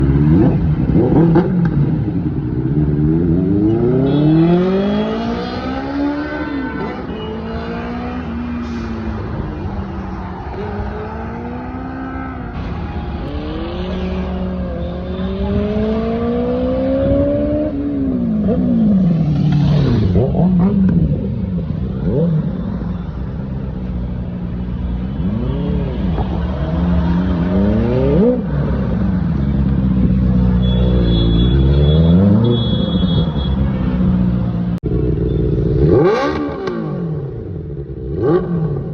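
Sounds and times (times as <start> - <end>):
motorcycle engine revving: 0.0 - 8.5, 10.5 - 23.7, 25.0 - 38.9.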